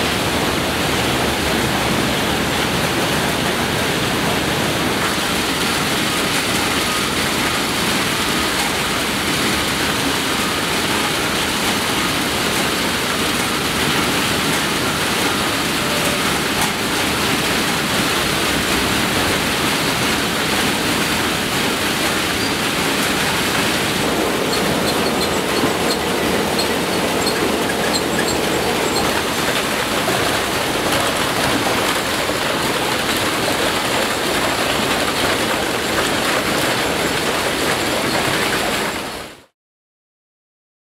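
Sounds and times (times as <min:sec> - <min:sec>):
conveyor machinery running: 0:00.0 - 0:39.5.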